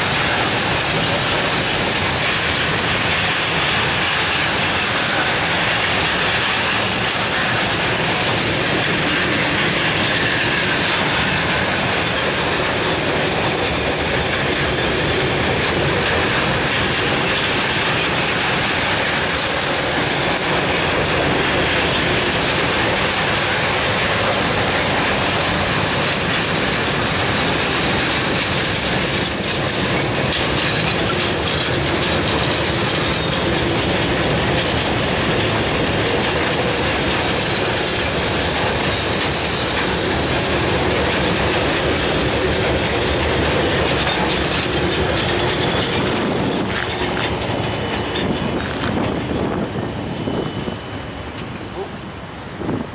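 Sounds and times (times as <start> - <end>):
steel wheels rolling on rails: 0.0 - 52.9.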